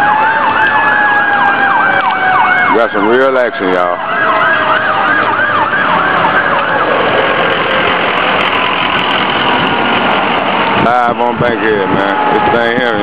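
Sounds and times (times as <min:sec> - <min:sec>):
siren yelping: 0:00.0 - 0:09.0, 0:11.5 - 0:13.0
steady loud rushing noise: 0:00.0 - 0:13.0.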